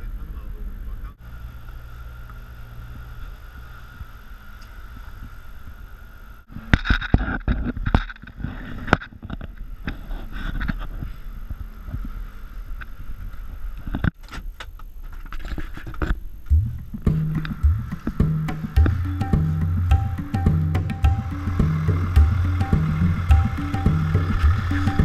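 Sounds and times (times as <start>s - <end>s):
car engine and road rumble: 0.0s - 15.3s, 16.2s - 25.0s.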